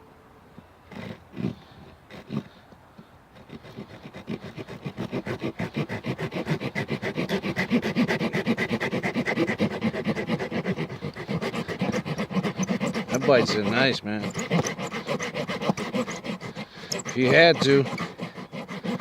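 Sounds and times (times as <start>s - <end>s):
saw blade sawing wood: 0.9s - 2.6s, 3.3s - 19.0s.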